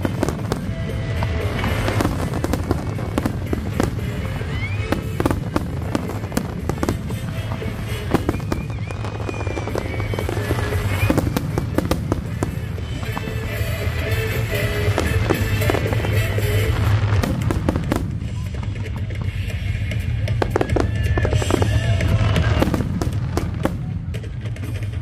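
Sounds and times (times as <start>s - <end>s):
firework whistles: 0.0s - 18.6s, 20.4s - 23.9s
fireworks bursting: 0.0s - 25.0s
fireworks crackling: 0.0s - 25.0s.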